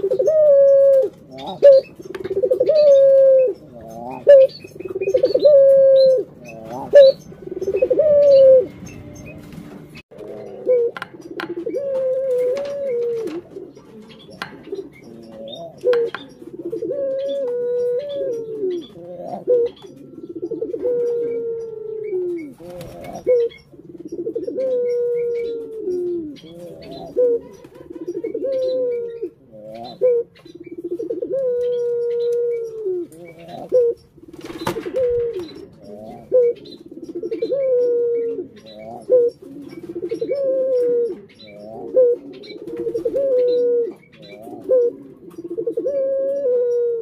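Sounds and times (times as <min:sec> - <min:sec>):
doves cooing: 0:00.0 - 0:47.0.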